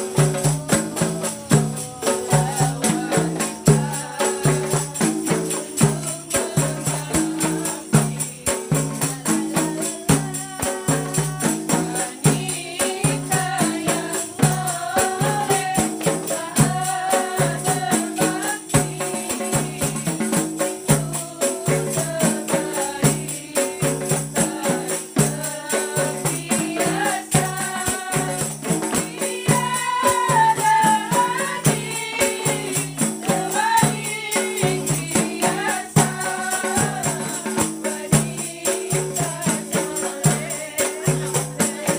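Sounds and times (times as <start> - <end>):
frame drums beating a rhythm: 0.0 - 41.9
woman singing: 0.0 - 41.9.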